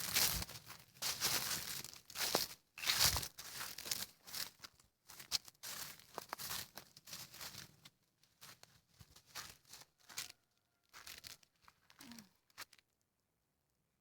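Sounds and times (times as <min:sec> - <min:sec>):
footsteps crunching through dry leaves: 0:00.0 - 0:12.7.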